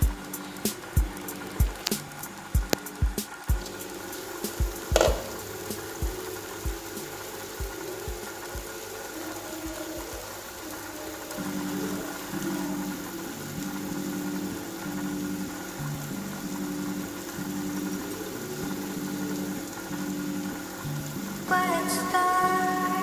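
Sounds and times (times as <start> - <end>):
background music with soft beats: 0.0 - 23.0.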